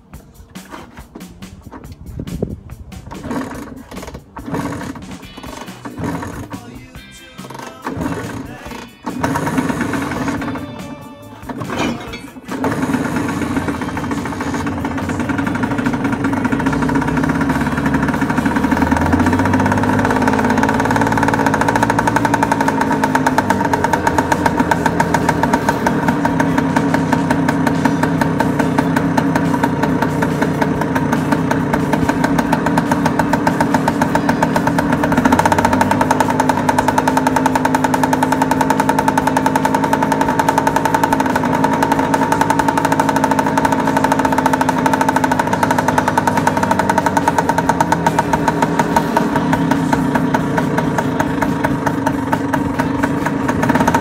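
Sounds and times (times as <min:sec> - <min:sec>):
scooter engine running: 0:00.0 - 0:54.0.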